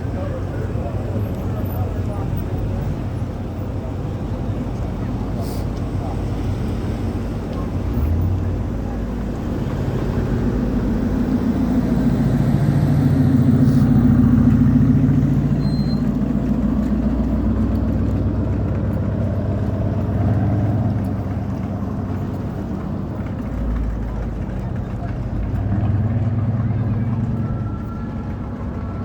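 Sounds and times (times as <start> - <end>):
motor vehicle engine running: 0.0 - 29.0.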